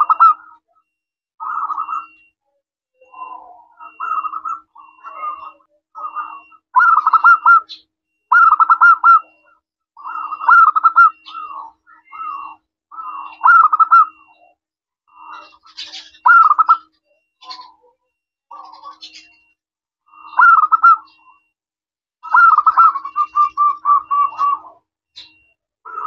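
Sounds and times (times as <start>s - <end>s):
dove cooing: 0.0s - 0.8s, 1.4s - 2.4s, 3.0s - 14.5s, 15.1s - 19.5s, 20.1s - 21.5s, 22.2s - 26.0s.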